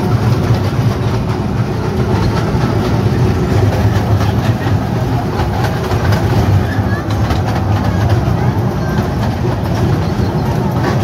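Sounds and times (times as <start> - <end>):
tourist train rumbling: 0.0 - 11.0.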